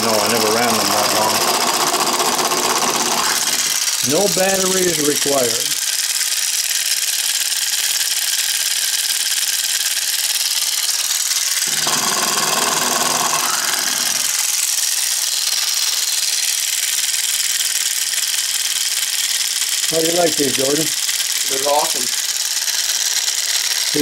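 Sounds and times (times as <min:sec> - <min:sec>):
solenoid engine running: 0:00.0 - 0:24.0.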